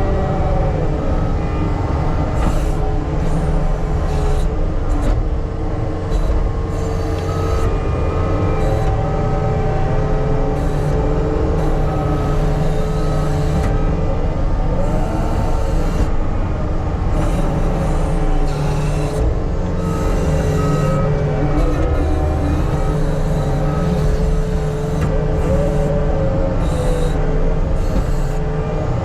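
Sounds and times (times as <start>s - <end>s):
hydraulic whine: 0.0s - 29.0s.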